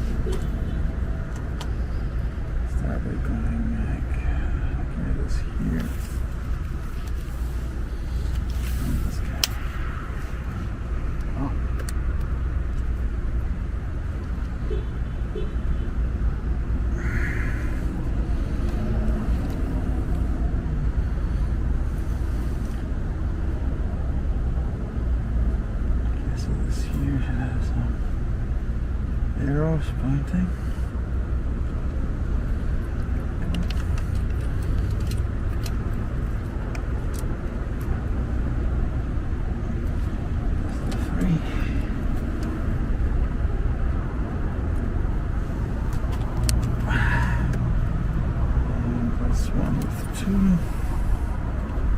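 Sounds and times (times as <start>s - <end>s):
low outdoor rumble: 0.0s - 51.9s.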